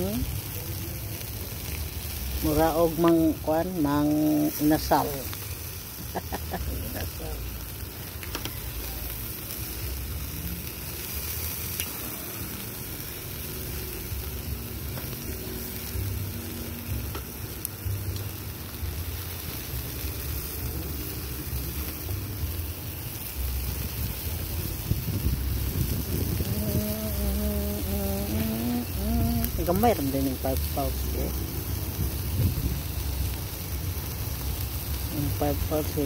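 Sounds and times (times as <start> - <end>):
low uneven rumble: 0.0 - 36.0
meat sizzling on a grill: 0.0 - 36.0.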